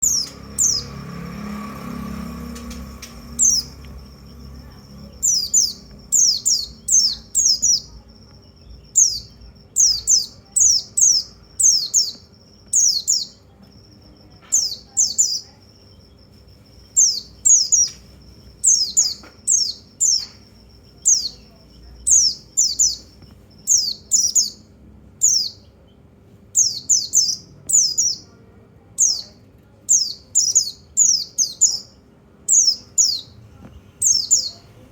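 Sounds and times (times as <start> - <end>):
bird high chirps: 0.0 - 34.8.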